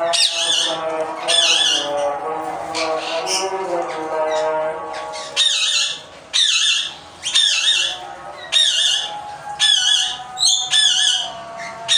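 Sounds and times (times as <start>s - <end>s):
parrot squawking: 0.0s - 11.9s.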